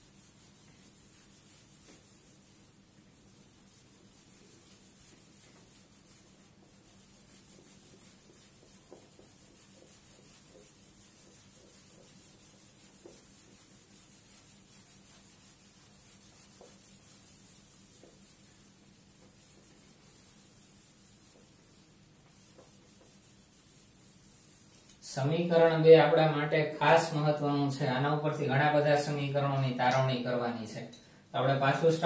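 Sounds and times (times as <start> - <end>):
cloth rubbing on whiteboard: 0.0 - 29.6
steady background hiss: 0.0 - 32.0.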